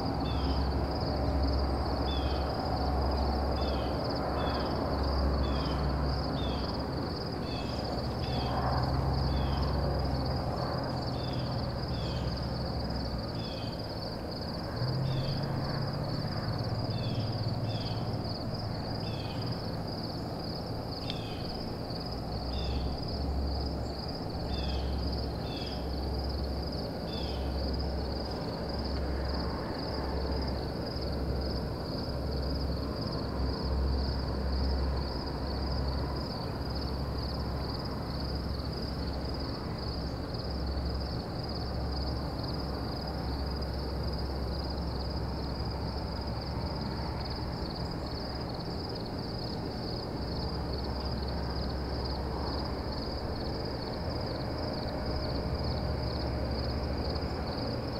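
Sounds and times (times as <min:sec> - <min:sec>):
insect chirps: 0:00.0 - 0:57.9
insect trill: 0:00.0 - 0:57.9.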